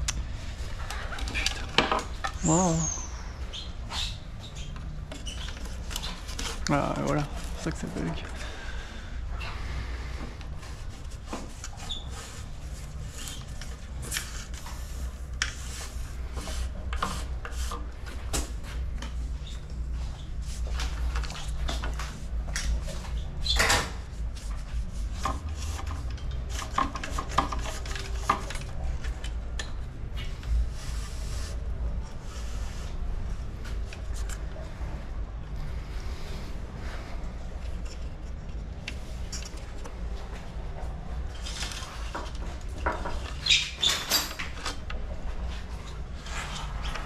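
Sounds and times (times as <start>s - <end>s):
steady low hum: 0.0s - 43.4s.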